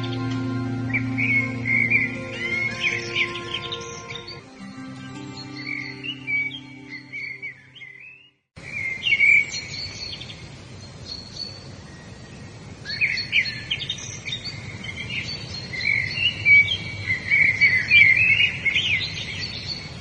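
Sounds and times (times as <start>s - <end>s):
birds chirping and singing: 0.0s - 11.6s, 12.9s - 20.0s.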